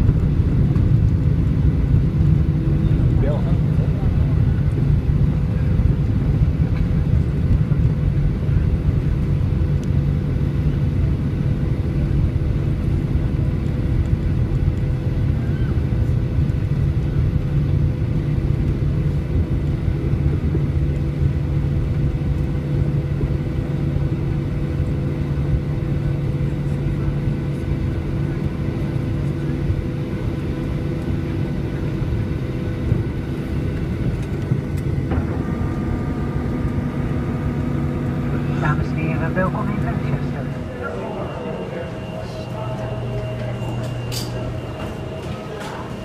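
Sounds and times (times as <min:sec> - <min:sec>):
jet cabin low rumble and hum: 0:00.0 - 0:46.0.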